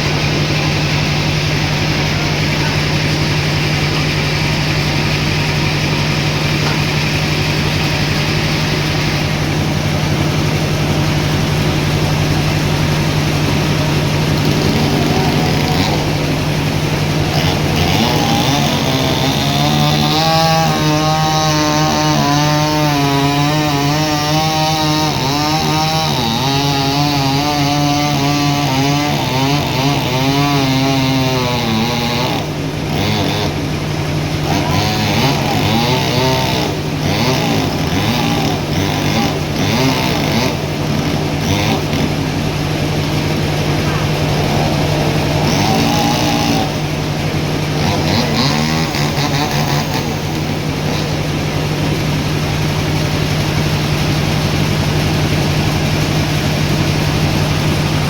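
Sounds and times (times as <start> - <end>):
saw whining cutting a log: 0.0 - 58.0
sawmill saw humming: 0.0 - 58.0.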